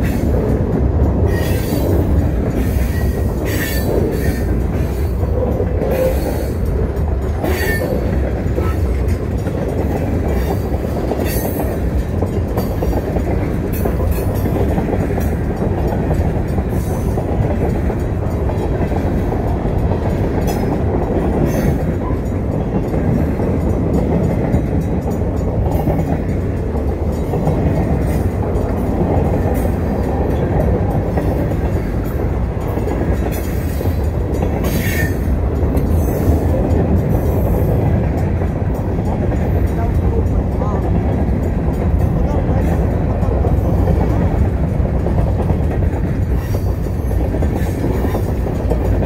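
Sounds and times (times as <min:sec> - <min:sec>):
sharp clacks of train cars: 0:00.0 - 0:49.0
train wheels rumbling on rails: 0:00.0 - 0:49.0.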